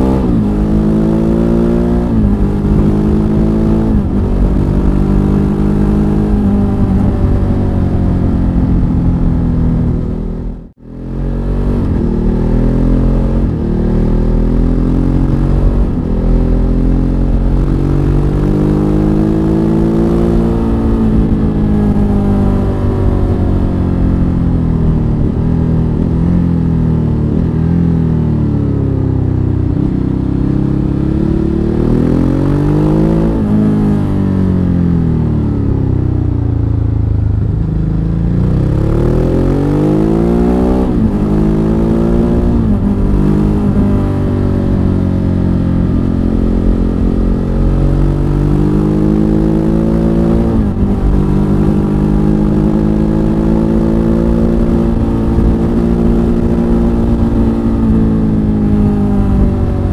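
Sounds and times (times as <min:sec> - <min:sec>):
motorcycle engine accelerating: 0:00.0 - 0:59.9
wind rumble on microphone: 0:00.0 - 0:59.9.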